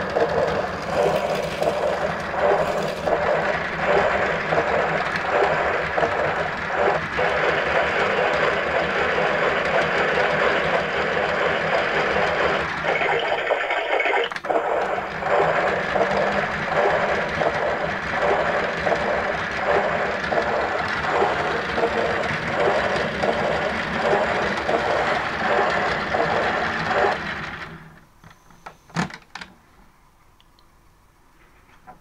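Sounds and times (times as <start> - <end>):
toy washing machine churning: 0.0 - 27.8.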